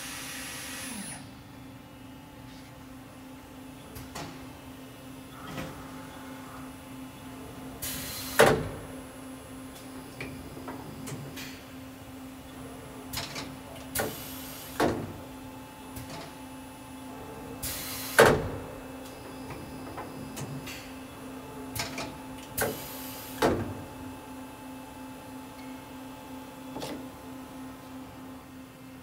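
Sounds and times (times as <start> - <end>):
machine steady hum: 0.0 - 29.0.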